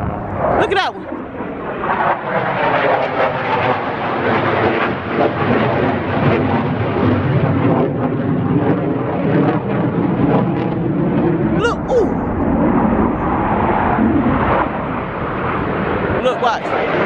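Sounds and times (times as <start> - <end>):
airplane engine flying overhead: 0.0 - 17.0.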